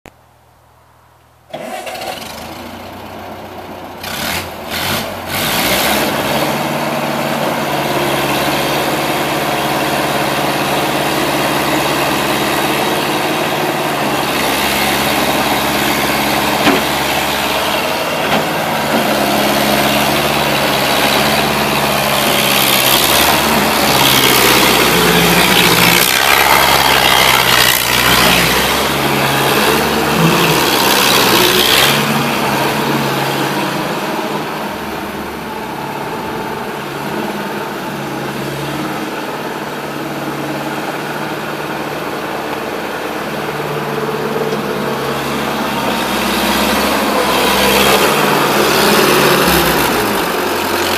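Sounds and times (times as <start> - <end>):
skid steer engine revving: 1.5 - 50.9.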